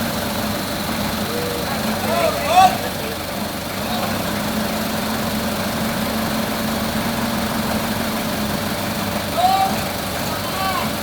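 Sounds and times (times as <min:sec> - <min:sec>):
forklift engine running: 0:00.0 - 0:11.0.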